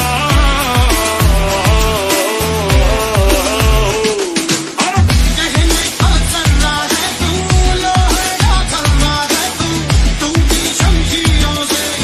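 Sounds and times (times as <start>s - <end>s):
deep electronic kick drum: 0.0s - 4.3s, 5.0s - 11.7s.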